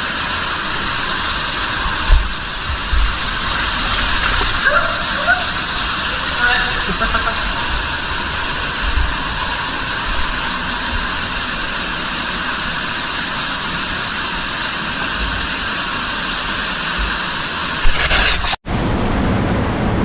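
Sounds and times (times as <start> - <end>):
waterfall roaring: 0.0 - 18.6.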